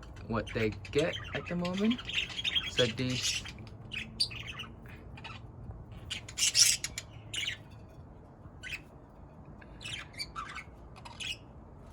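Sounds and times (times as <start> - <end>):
budgerigars squawking and chirping: 0.0 - 7.8, 8.6 - 9.0, 9.6 - 11.6.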